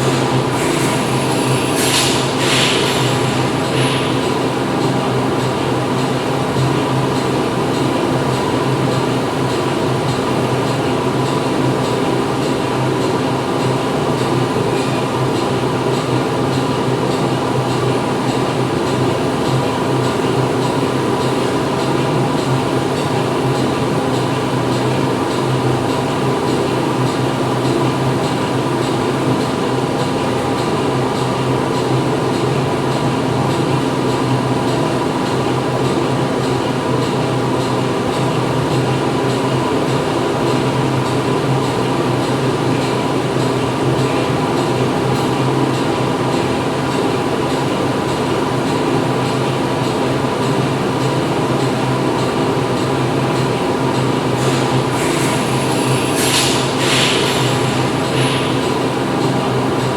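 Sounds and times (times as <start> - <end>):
factory machinery humming: 0.0 - 59.9.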